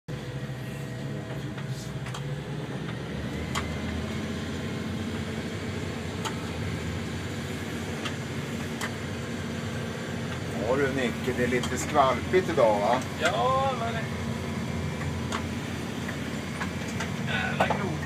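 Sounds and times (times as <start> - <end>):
boat engine running: 0.1 - 18.0.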